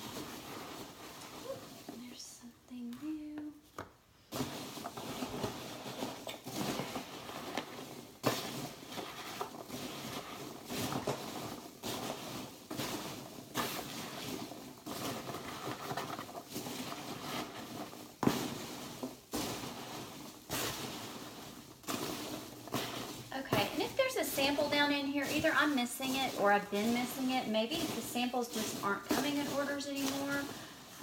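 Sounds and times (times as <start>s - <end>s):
rustling in cardboard box: 0.0s - 3.6s, 4.3s - 31.0s.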